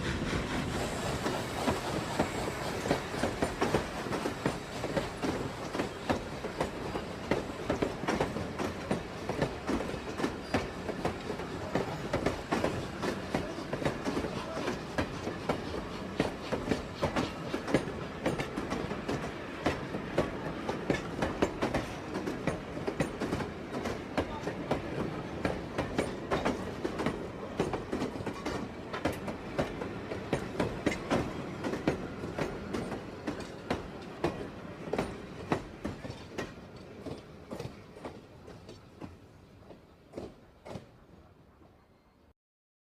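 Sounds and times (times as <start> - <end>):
train wheels clattering: 0.0 - 41.0.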